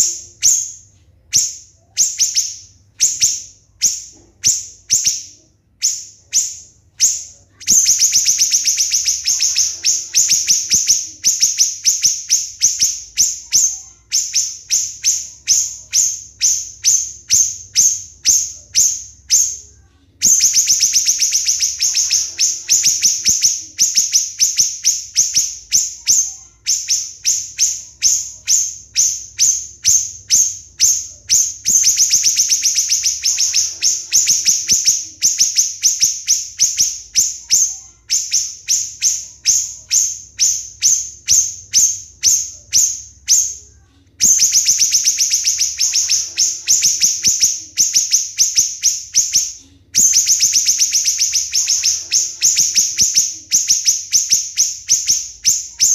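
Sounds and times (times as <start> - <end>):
bird singing shrill rapid notes: 0.0 - 55.9.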